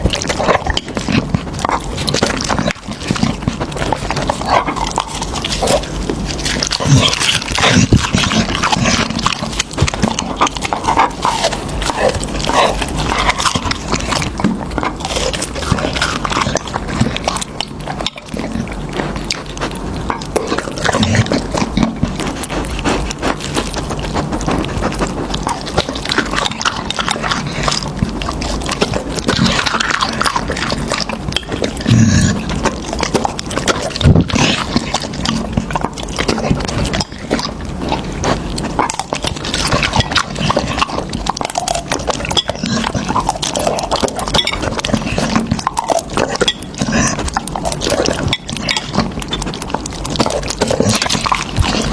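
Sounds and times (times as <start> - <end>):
dog chewing and crunching bone: 0.0 - 51.9.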